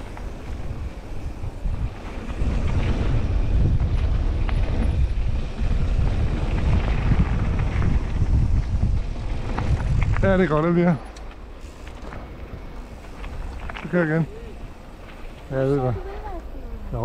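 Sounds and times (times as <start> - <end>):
tyre rumble on trail: 0.0 - 16.1
wind buffeting microphone: 0.0 - 17.0.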